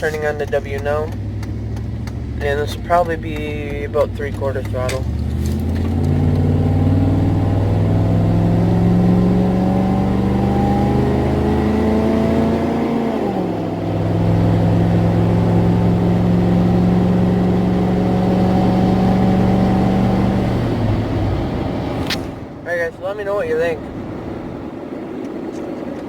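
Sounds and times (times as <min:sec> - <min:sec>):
engine exhaust accelerating: 0:00.0 - 0:26.0.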